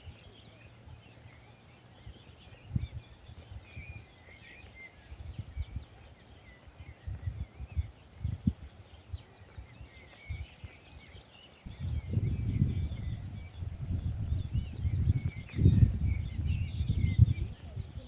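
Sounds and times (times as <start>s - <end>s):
small birds chirping: 0.0s - 18.0s
wind buffeting microphone: 1.9s - 18.0s.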